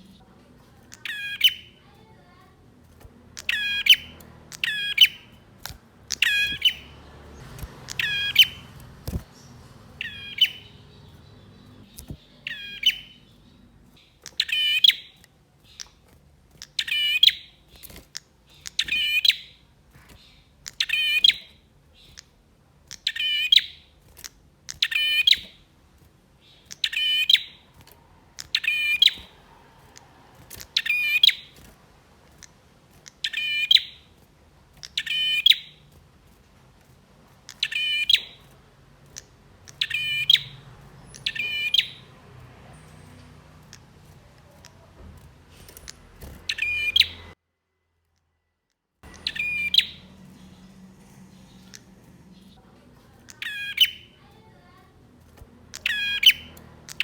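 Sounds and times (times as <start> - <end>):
prinia singing sharp calls: 0.0 - 25.7, 26.3 - 34.2, 34.8 - 36.0, 37.4 - 47.4, 49.0 - 57.0.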